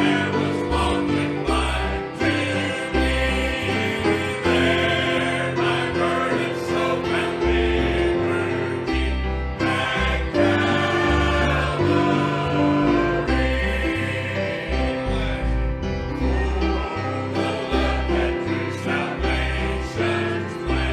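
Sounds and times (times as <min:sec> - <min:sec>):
congregation singing a hymn: 0:00.0 - 0:20.9
instrumental accompaniment: 0:00.0 - 0:20.9.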